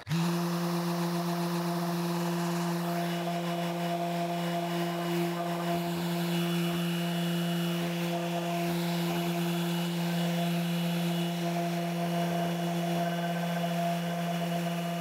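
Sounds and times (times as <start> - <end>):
orbit sander humming: 0.0 - 15.0.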